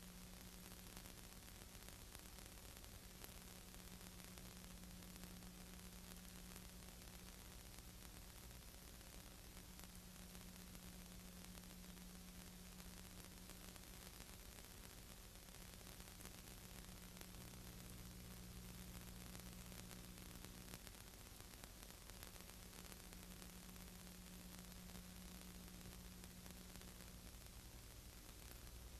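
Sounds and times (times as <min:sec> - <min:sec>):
recording hiss: 0:00.0 - 0:28.9.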